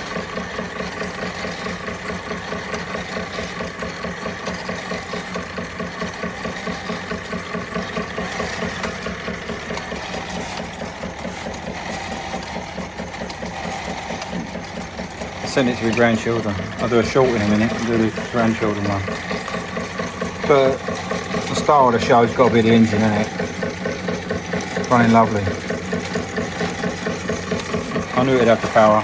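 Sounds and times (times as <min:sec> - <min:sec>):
model steam engine chuffing: 0:00.0 - 0:29.0
toys clattering and whirring: 0:00.0 - 0:29.0.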